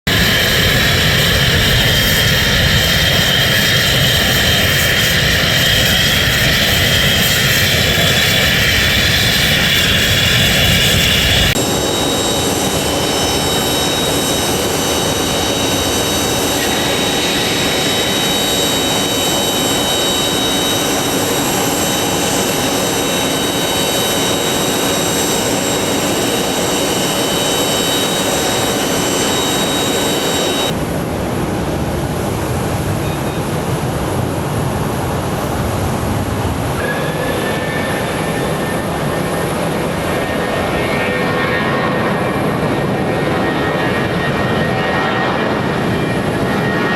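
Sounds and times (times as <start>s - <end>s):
jet engines whining and rushing: 0.0s - 46.9s.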